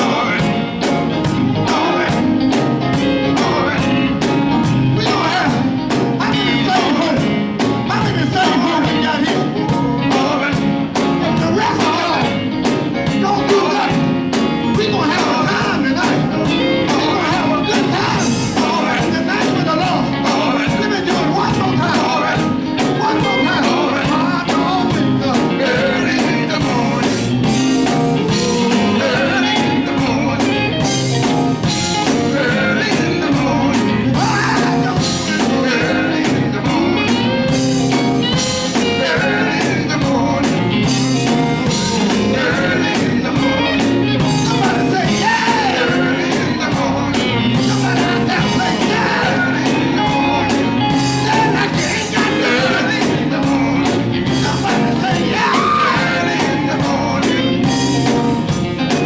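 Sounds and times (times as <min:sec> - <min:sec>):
steady drum beat: 0:00.0 - 0:59.0
voices singing gospel with band: 0:00.0 - 0:59.0.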